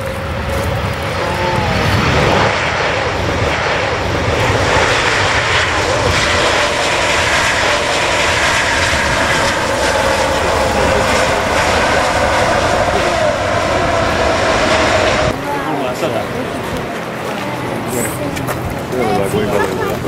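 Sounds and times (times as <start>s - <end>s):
jet engines running loud: 0.0s - 20.0s.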